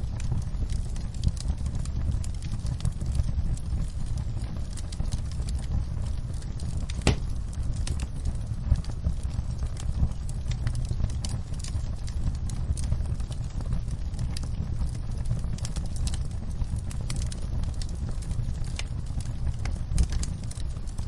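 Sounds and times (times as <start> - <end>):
low steady rumble: 0.0 - 21.0
wood fire crackling and popping: 0.0 - 21.0.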